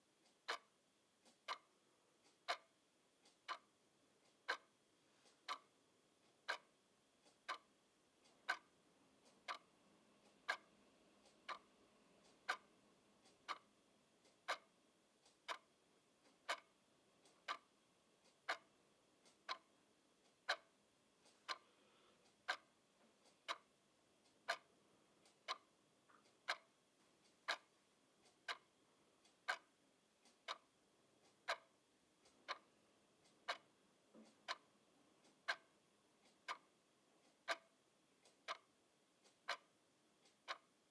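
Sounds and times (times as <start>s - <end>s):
clock ticking: 0.1s - 40.9s.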